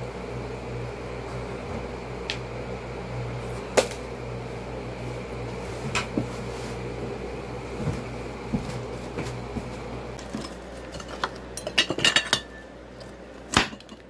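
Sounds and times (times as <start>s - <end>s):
room hum: 0.0s - 14.0s.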